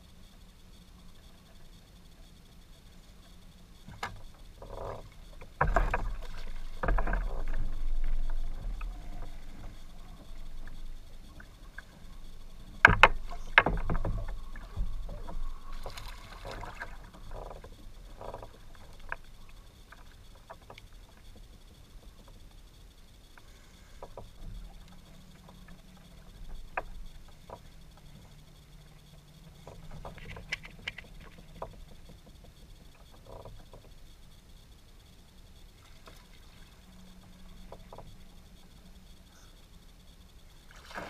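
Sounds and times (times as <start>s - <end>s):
water sloshing at hull: 3.1s - 41.0s.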